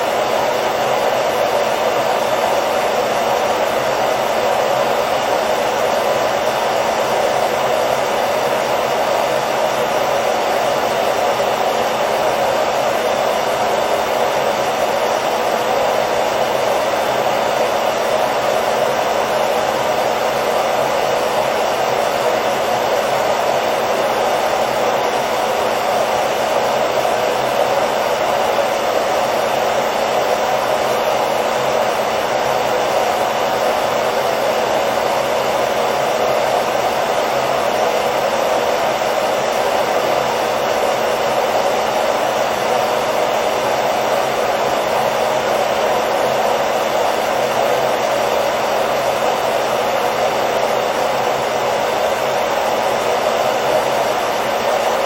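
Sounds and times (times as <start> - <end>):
hair dryer whooshing: 0.0 - 55.0.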